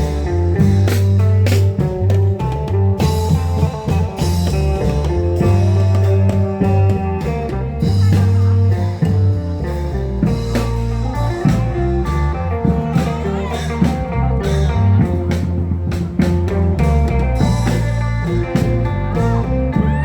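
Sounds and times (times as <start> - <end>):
amplified guitar melody: 0.0 - 20.0
bass line: 0.0 - 20.0
drums: 0.0 - 20.0.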